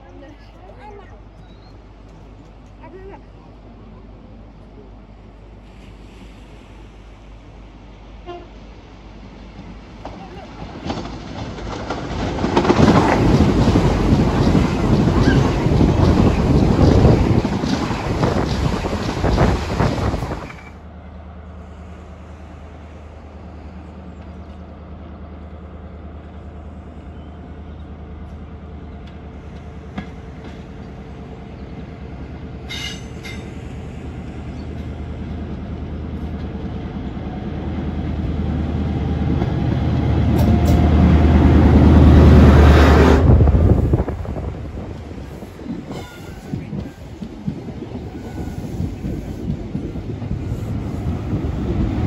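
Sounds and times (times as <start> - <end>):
diesel train engine drone: 0.0 - 52.0.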